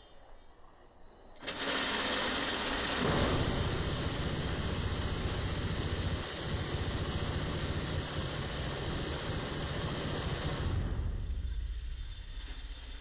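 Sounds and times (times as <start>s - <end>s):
minigun firing: 1.4s - 13.0s.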